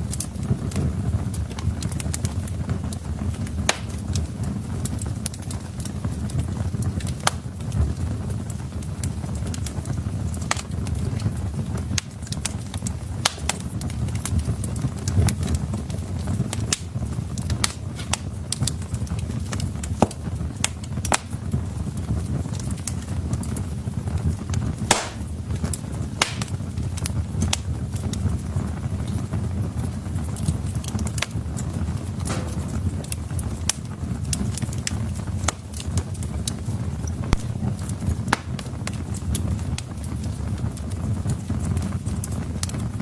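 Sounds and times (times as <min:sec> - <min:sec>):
logs crackling and popping: 0:00.0 - 0:43.0
low rumble of flames: 0:00.0 - 0:43.0.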